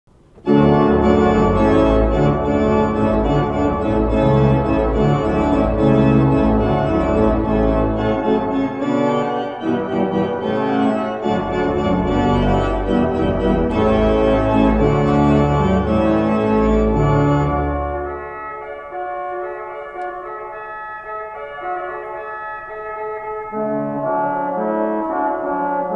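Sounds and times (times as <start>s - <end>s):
organ music playing chords: 0.1s - 25.9s.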